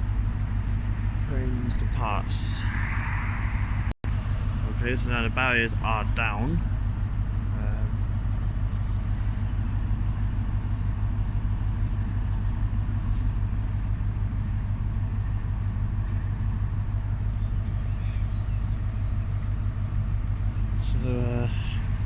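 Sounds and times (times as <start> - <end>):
diesel train engine idling: 0.0 - 22.0.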